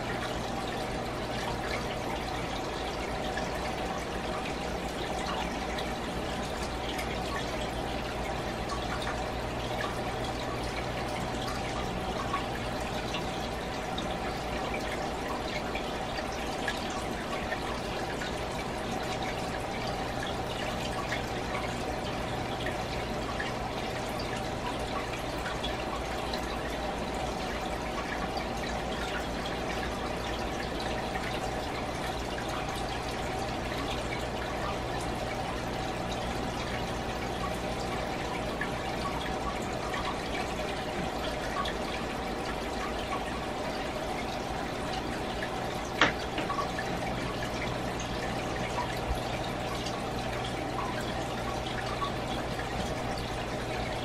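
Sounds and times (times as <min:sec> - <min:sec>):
aquarium water running: 0:00.0 - 0:54.0.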